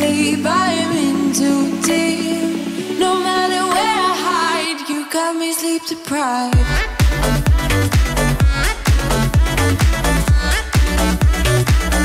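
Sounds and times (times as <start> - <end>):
pop song with sung melody: 0.0 - 12.0.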